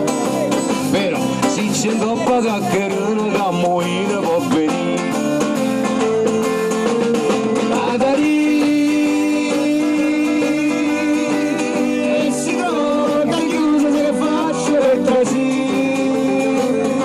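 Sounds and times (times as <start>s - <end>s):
acoustic guitar: 0.0s - 17.0s
bass guitar: 0.0s - 17.0s
drums: 0.0s - 17.0s
electric guitar: 0.0s - 17.0s.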